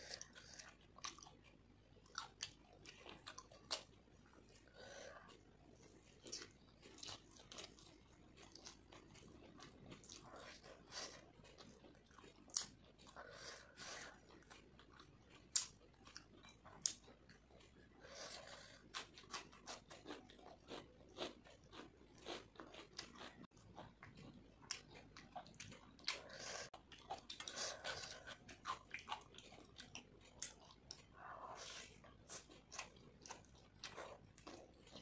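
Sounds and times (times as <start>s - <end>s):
wet chewing: 0.0s - 35.0s.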